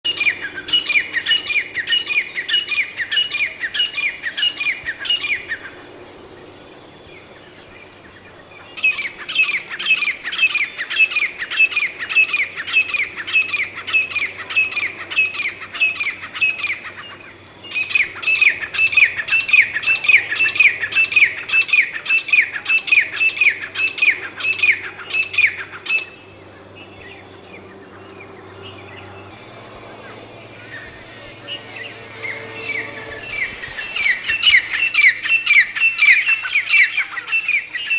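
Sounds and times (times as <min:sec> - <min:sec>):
francolin calling: 0:07.4 - 0:37.9.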